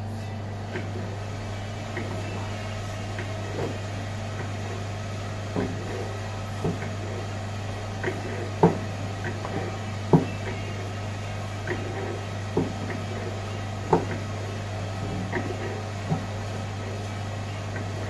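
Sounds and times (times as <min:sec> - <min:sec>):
dough roller machine humming: 0:00.0 - 0:18.0.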